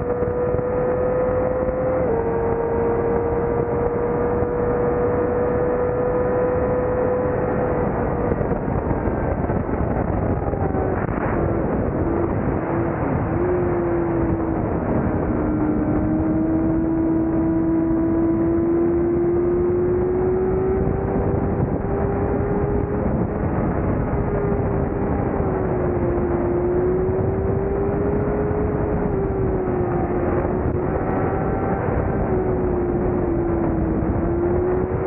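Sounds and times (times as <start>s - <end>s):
motorcycle engine at high revs: 0.0s - 35.0s
wind rush: 0.0s - 35.0s.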